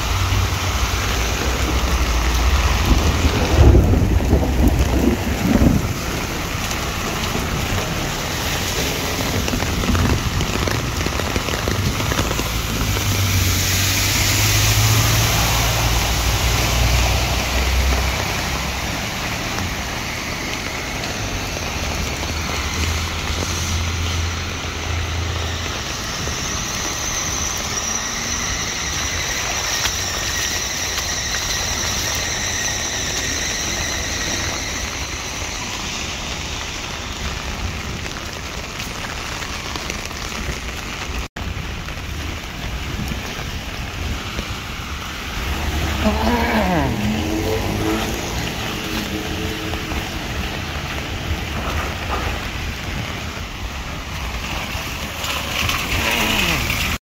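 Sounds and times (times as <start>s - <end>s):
engines rumbling low: 0.0s - 57.0s
steady rain: 0.0s - 57.0s
vehicles splashing through water: 0.0s - 57.0s.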